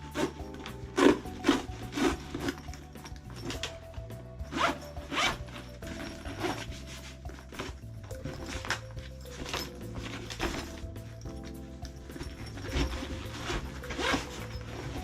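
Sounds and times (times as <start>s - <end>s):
soft background music: 0.0s - 15.0s
zipper rasping: 0.0s - 15.0s.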